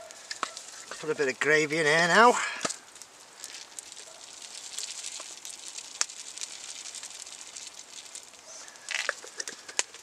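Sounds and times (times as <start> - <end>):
granules pattering into a pot: 0.0 - 10.0
wood fire crackling: 0.0 - 10.0.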